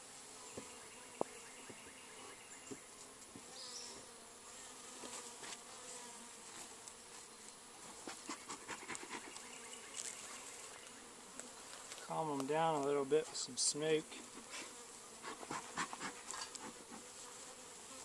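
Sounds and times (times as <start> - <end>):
honeybees humming: 0.0 - 18.0.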